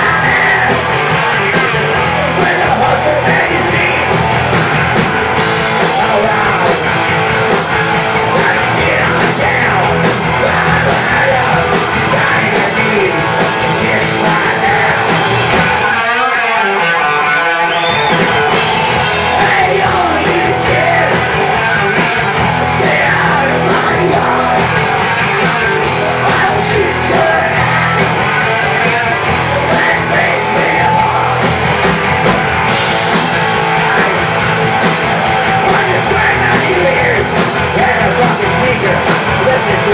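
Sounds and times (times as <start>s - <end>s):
shouted vocals: 0.0s - 4.6s, 8.2s - 39.9s
live hard rock band: 0.0s - 39.9s
wavering guitar line: 0.0s - 39.9s.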